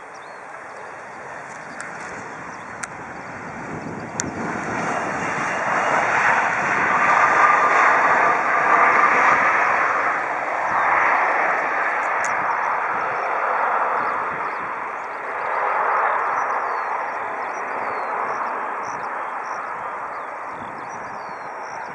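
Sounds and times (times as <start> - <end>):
faint jet engine whine: 0.0 - 21.9
jet engines rushing: 0.0 - 21.9.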